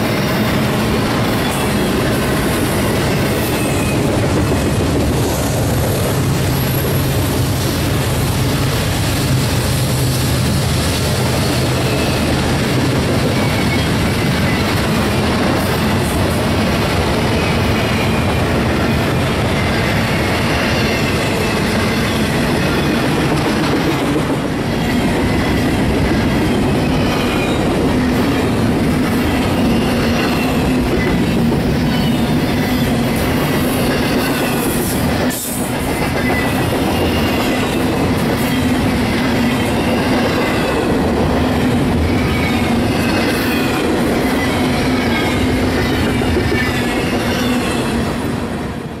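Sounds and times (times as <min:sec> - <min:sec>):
clickety-clack over rail joints: 0:00.0 - 0:48.4
freight train wheels rumbling: 0:00.0 - 0:49.0.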